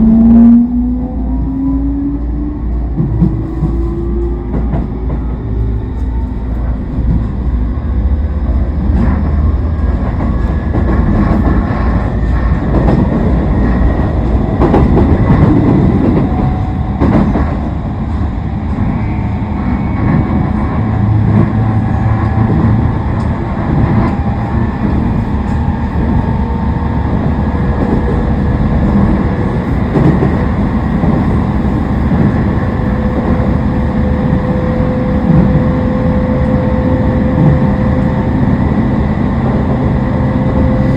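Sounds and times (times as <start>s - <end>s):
train inverter whine: 0.0s - 40.9s
train wheels rumbling on rail: 0.0s - 40.9s.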